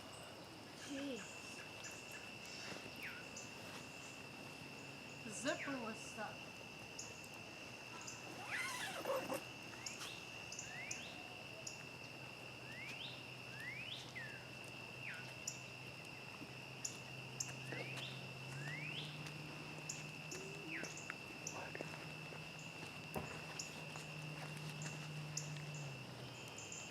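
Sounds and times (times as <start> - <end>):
campfire crackling: 0.0 - 26.9
crickets trilling: 0.0 - 26.9
faint low hum: 0.0 - 26.9
rustle: 0.0 - 26.9.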